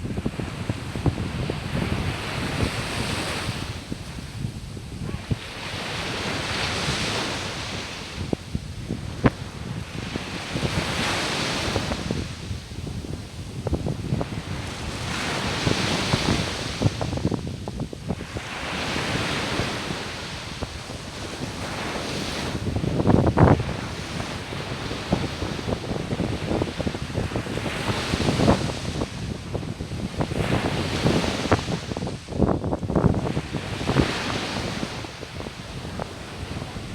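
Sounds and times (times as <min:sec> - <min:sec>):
sea waves breaking on beach: 0:00.0 - 0:36.9
wind on microphone: 0:00.0 - 0:36.9.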